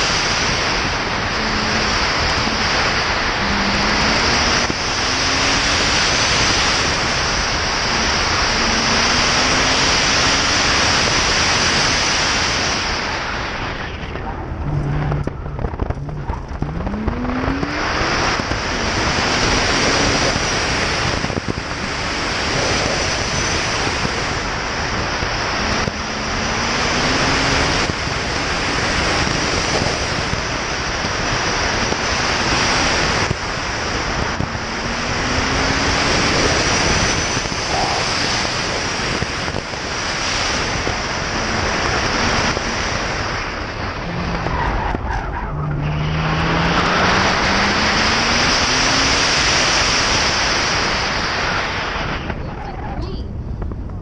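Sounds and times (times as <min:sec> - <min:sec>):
faint car engine accelerating: 0:00.0 - 0:52.4
wind rushing over microphone: 0:00.0 - 0:54.0.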